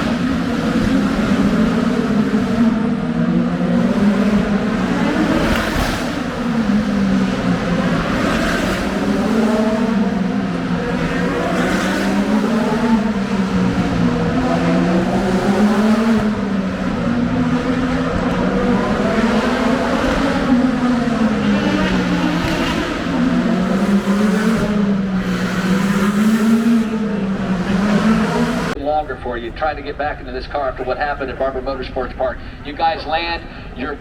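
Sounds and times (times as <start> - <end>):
race car engines: 0.0 - 34.0.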